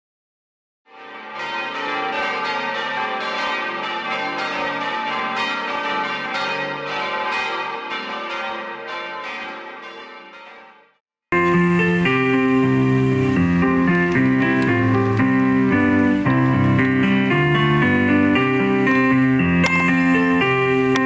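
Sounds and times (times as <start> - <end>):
church bells ringing: 0.9 - 21.0.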